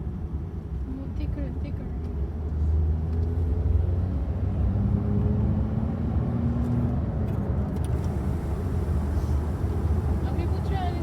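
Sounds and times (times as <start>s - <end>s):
motor vehicle rumbling: 0.7s - 11.0s.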